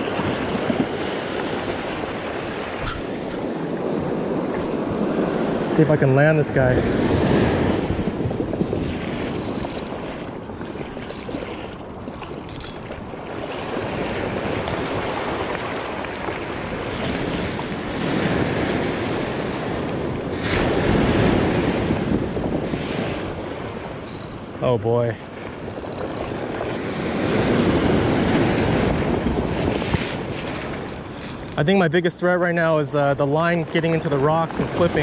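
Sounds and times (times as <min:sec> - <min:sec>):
ocean surf washing: 0:00.0 - 0:35.0
wind buffeting microphone: 0:00.0 - 0:35.0.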